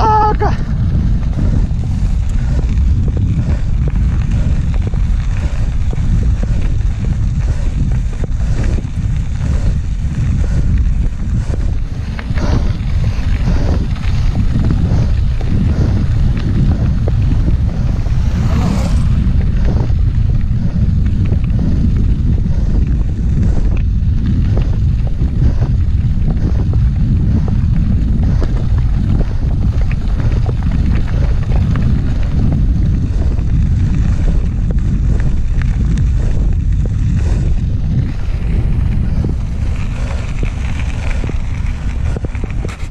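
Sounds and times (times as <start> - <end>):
tyres rumbling on gravel: 0.0 - 42.9
wind buffeting microphone: 0.0 - 42.9.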